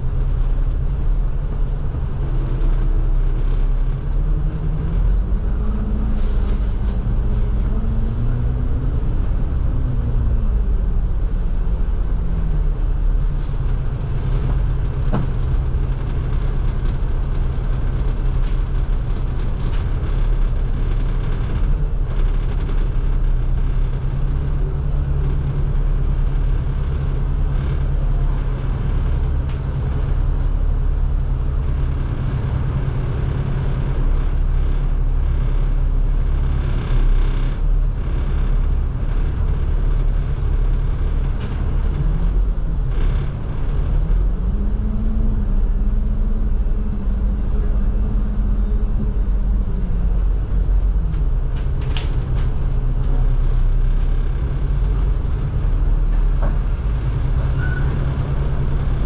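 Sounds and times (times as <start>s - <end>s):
bus engine drone: 0.0s - 59.0s
road noise inside bus: 0.0s - 59.0s.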